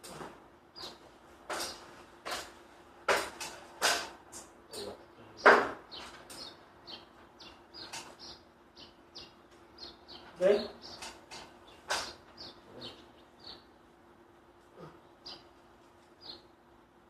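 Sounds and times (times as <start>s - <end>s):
small birds chirping: 0.1s - 2.6s, 3.2s - 16.9s.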